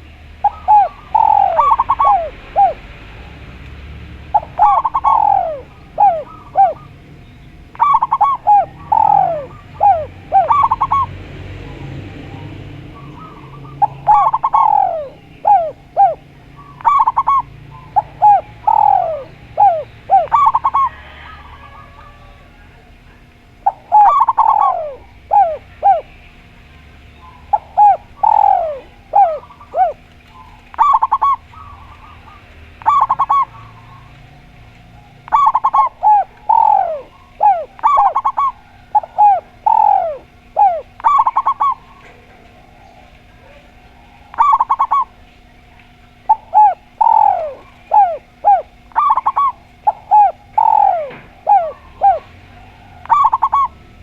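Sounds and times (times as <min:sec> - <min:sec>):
doves cooing: 0:00.0 - 0:54.0
faint steady hum: 0:00.0 - 0:54.0.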